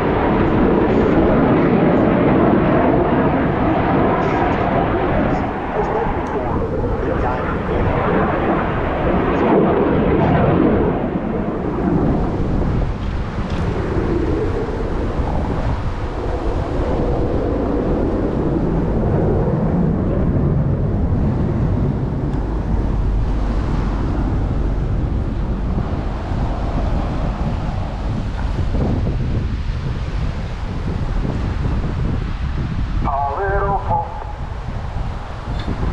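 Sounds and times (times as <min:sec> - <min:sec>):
jets rumbling in flight: 0:00.0 - 0:35.9
wind buffeting microphone: 0:00.0 - 0:35.9.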